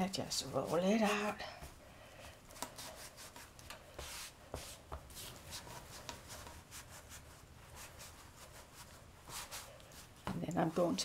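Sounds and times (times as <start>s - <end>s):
hands rubbing dough: 0.1s - 11.0s.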